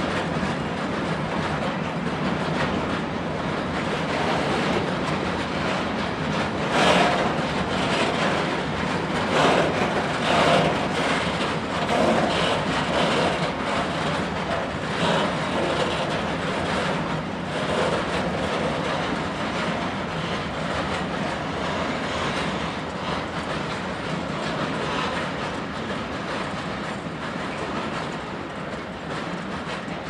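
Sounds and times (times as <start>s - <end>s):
freight train wheels rattling on rails: 0.0s - 30.0s.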